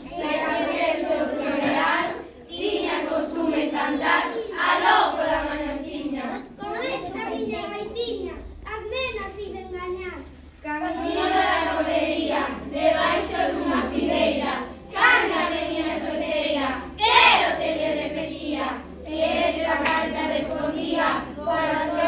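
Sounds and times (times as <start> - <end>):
children singing together: 0.0 - 6.8, 10.8 - 22.0.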